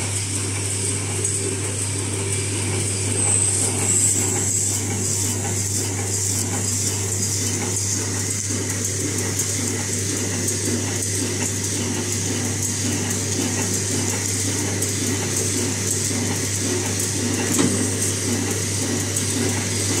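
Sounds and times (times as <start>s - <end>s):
packaging machine humming and rattling: 0.0s - 20.0s.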